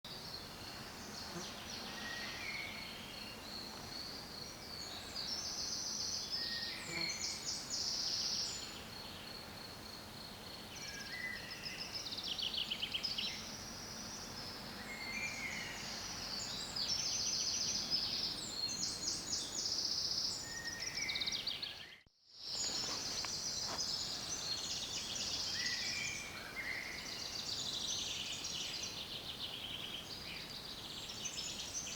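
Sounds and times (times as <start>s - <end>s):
songbirds singing and trilling: 0.1s - 9.4s, 10.4s - 31.9s
background hiss: 0.1s - 31.9s.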